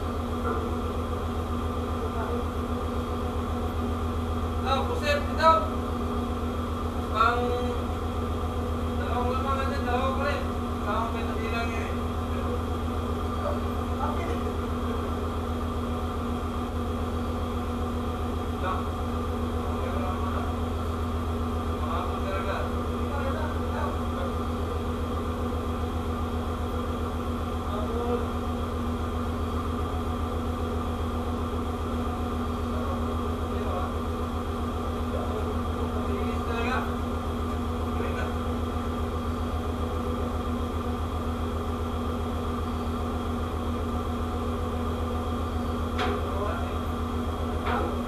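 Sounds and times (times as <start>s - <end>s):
ship machinery drone: 0.0s - 48.0s.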